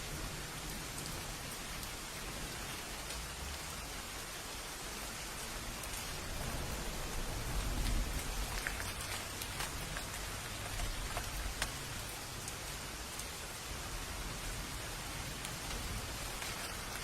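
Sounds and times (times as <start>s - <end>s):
raindrops ticking on surface: 0.0s - 17.0s
steady rain: 0.0s - 17.0s.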